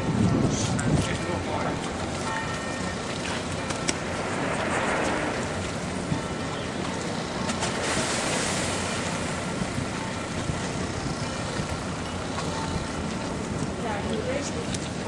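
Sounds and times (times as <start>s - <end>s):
boat engines humming: 0.0s - 15.0s
churning water: 0.0s - 15.0s.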